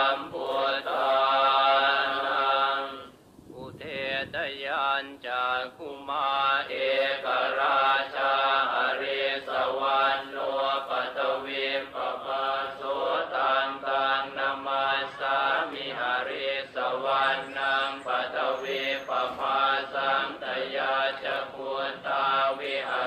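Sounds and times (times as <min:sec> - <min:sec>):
chanting: 0:00.0 - 0:23.0.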